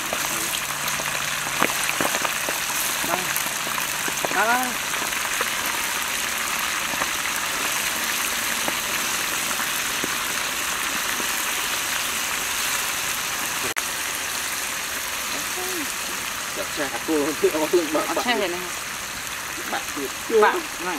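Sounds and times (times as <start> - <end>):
fish sizzling in hot oil: 0.0 - 20.9.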